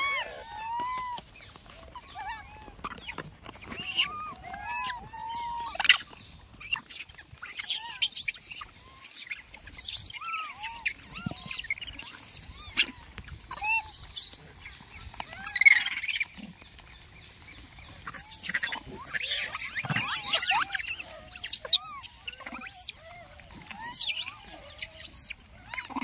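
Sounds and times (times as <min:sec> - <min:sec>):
monkeys squeaking: 0:00.0 - 0:14.5, 0:18.0 - 0:26.0
rustling: 0:00.0 - 0:26.0.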